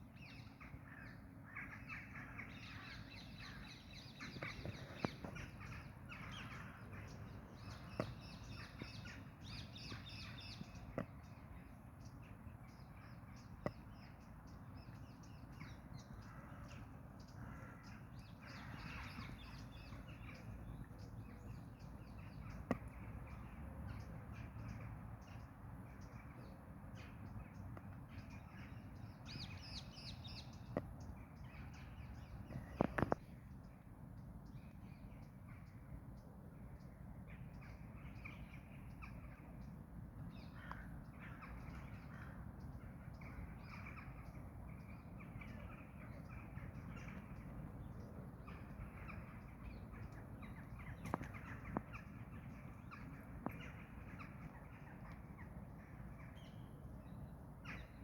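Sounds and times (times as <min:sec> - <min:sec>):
outdoor background hum: 0:00.0 - 0:58.0.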